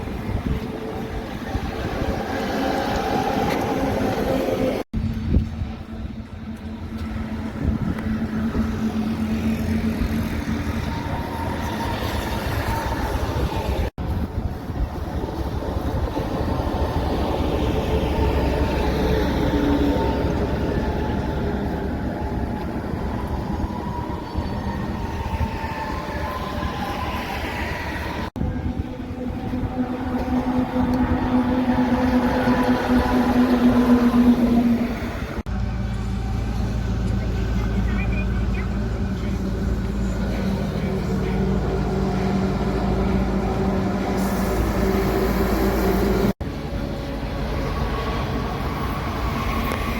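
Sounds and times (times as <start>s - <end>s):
heavy trucks driving past: 0.0s - 49.9s.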